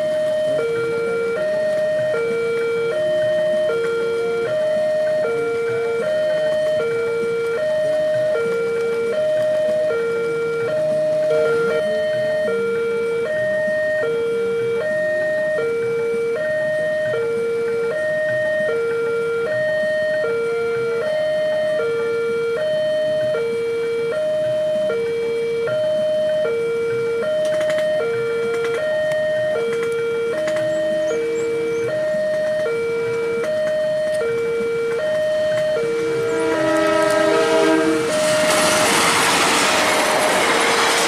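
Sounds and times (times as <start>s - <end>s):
level-crossing two-tone alarm: 0.0s - 41.0s.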